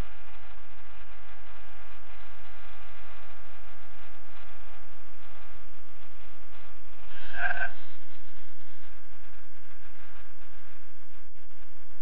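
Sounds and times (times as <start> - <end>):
electronic hum and hiss: 0.0 - 12.0
faint whining tones: 0.0 - 12.0.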